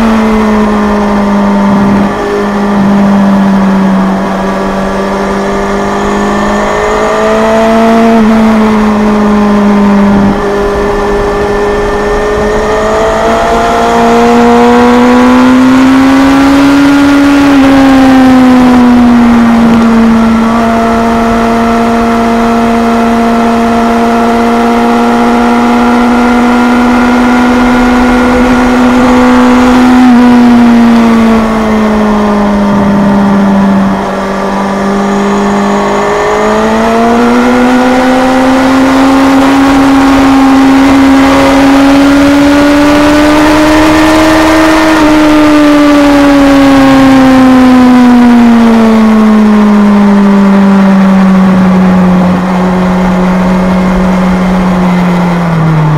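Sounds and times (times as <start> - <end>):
motorcycle engine revving high: 0.0 - 55.9.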